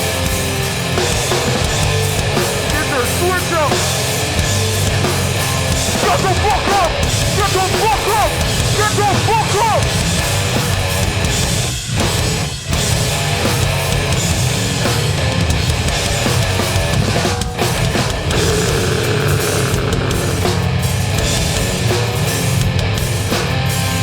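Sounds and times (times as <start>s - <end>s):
hardcore band playing loudly: 0.0s - 24.0s.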